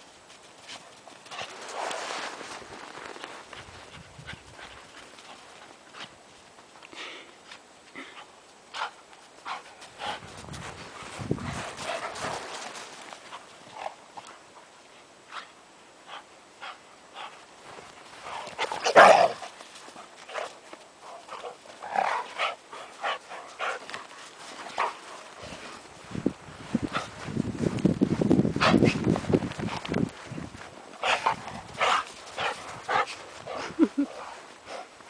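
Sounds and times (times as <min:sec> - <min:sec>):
dogs scuffling in snow: 0:00.0 - 0:06.8, 0:08.5 - 0:14.5, 0:17.2 - 0:35.0.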